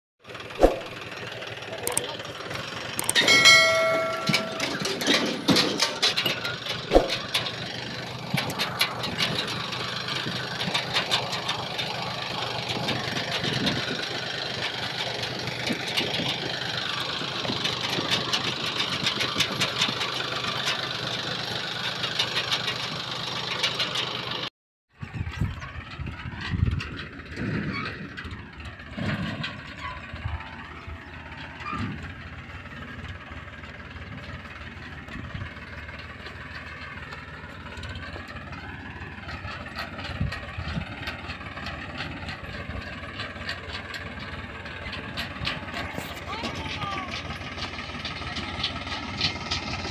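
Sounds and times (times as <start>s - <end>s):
diesel tractor engine running: 0.2s - 49.9s
steel trolley clattering: 0.3s - 24.4s, 25.2s - 49.9s.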